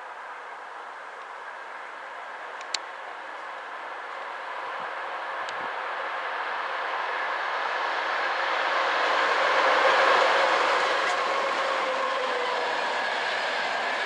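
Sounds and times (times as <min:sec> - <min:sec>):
train rail and wheel noise: 0:00.0 - 0:14.0
passenger coaches rolling past: 0:01.4 - 0:14.0.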